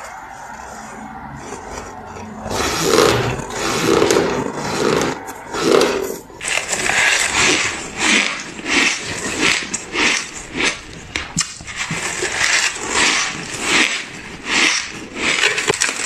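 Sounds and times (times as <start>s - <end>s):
ice crunching being chewed: 1.6s - 16.0s.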